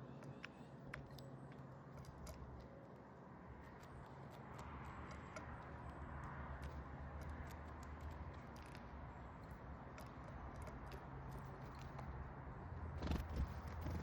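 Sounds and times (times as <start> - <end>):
birds pecking and cracking seed: 0.0 - 14.0.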